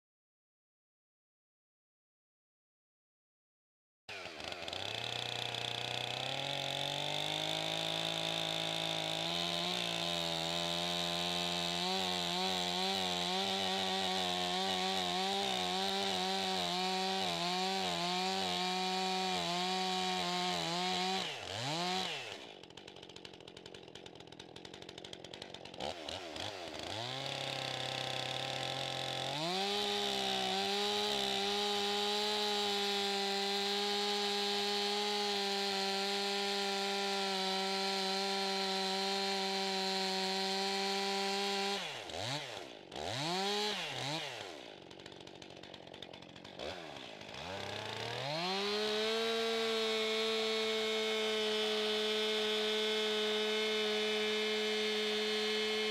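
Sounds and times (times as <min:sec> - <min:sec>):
chainsaw cutting log: 0:04.1 - 0:55.9
chainsaw idling: 0:04.1 - 0:55.9.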